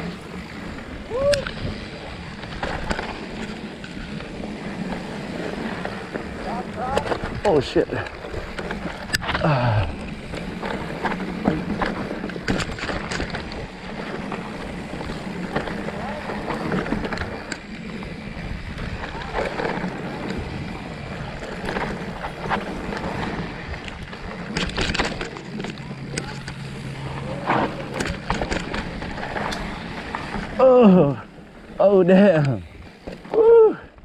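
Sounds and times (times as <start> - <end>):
bike clicks and rattles: 0.0 - 34.0
tyre noise on dirt: 0.0 - 34.0.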